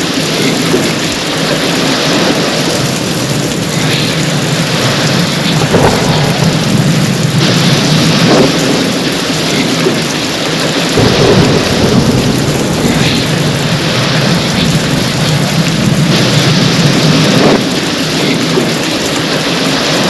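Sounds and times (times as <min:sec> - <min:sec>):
heavy rain falling: 0:00.0 - 0:20.0
thunder rumbling: 0:00.0 - 0:20.0.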